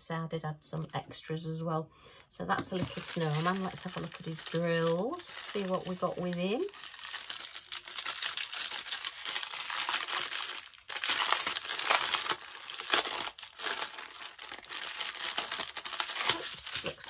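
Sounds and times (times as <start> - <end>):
plastic packaging crinkling: 2.6 - 17.0.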